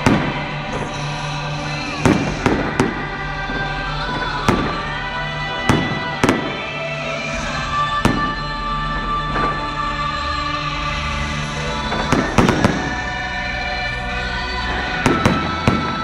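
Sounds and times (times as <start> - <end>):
fireworks bursting: 0.0 - 16.0
music: 0.0 - 16.0.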